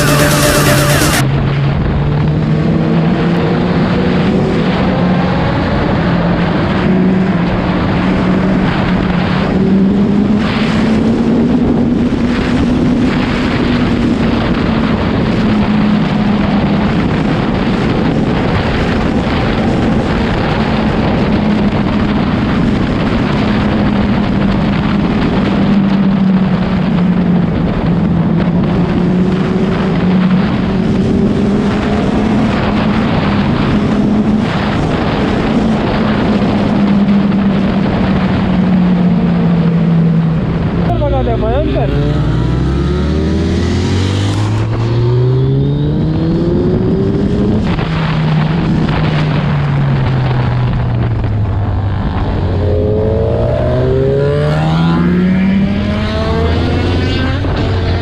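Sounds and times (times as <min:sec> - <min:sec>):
motorcycle engine cruising: 0:00.0 - 0:58.0
wind rushing on microphone: 0:00.0 - 0:58.0.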